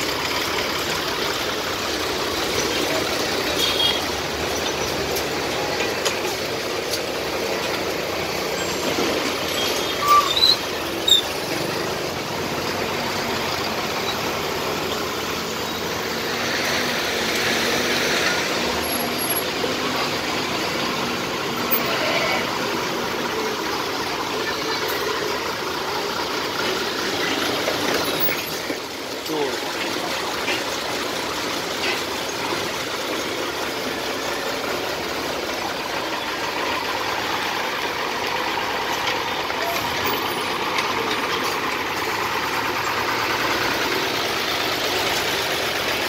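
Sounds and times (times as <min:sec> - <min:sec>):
lorry engines idling: 0:00.0 - 0:46.0.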